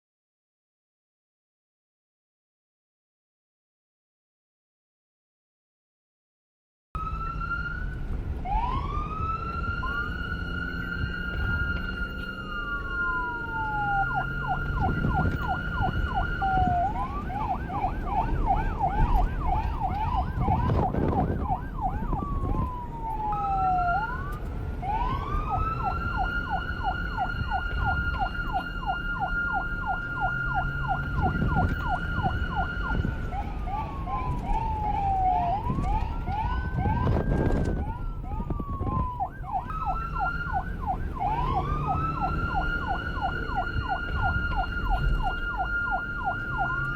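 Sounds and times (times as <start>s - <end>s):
police siren: 7.0s - 46.9s
traffic rumble: 7.0s - 46.9s.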